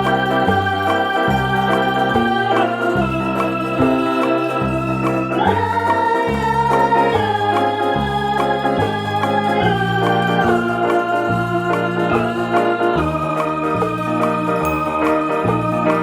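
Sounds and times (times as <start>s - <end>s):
electronic organ music: 0.0s - 16.0s.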